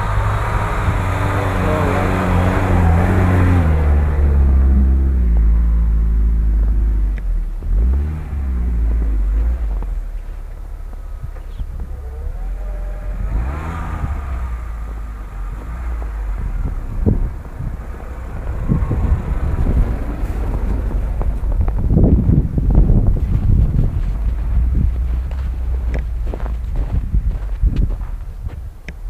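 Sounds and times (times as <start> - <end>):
car engine revving: 0.0 - 27.6.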